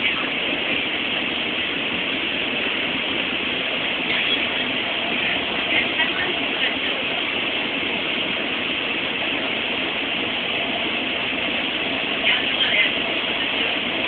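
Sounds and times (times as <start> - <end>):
train running from inside carriage: 0.0 - 14.0.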